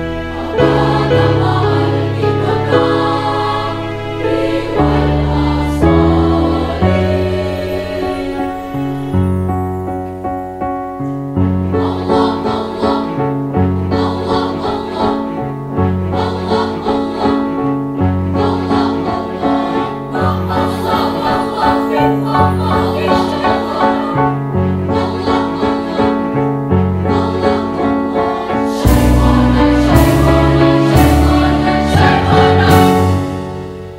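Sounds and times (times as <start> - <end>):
girls' choir singing: 0.0 - 9.2, 11.7 - 33.6
keyboard accompaniment: 0.0 - 33.9.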